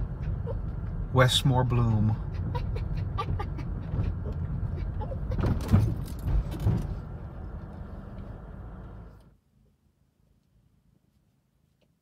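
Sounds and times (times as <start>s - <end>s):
car engine and road hum: 0.0s - 11.1s.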